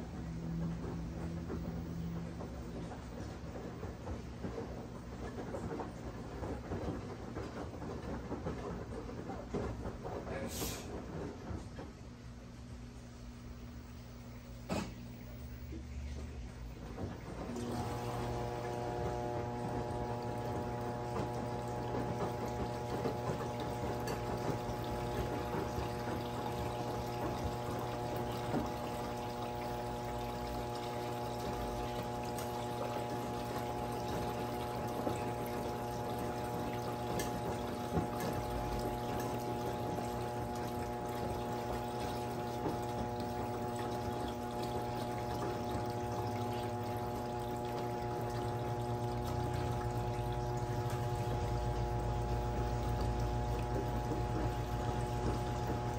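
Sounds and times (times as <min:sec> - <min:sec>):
washing machine drain pump humming: 0:00.0 - 0:55.9.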